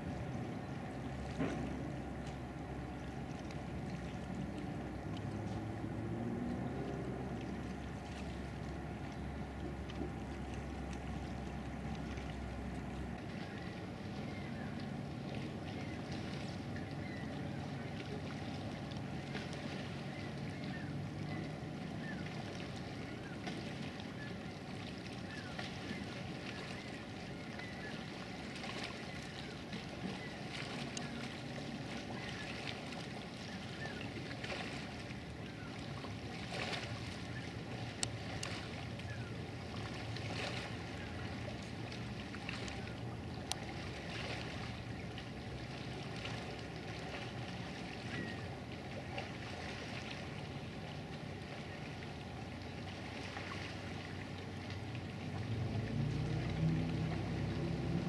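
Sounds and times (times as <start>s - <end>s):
distant motorboat engine droning: 0.0s - 58.0s
wind and water noise: 0.0s - 58.0s.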